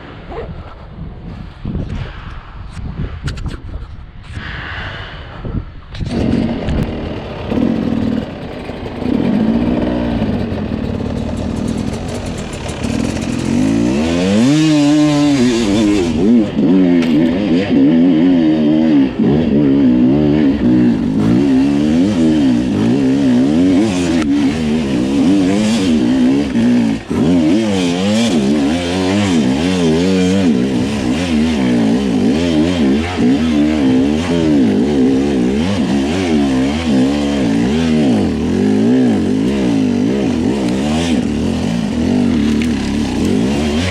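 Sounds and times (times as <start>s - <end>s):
dirt bike engine revving: 6.0s - 43.9s.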